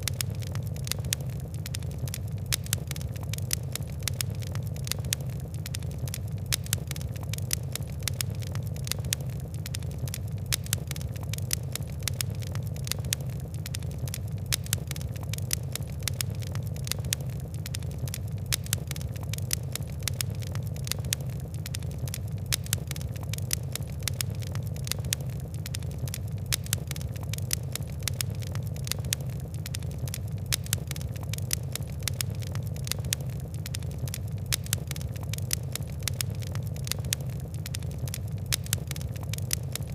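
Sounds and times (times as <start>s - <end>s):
fire crackling: 0.0s - 39.9s
steady low rumble: 0.0s - 39.9s.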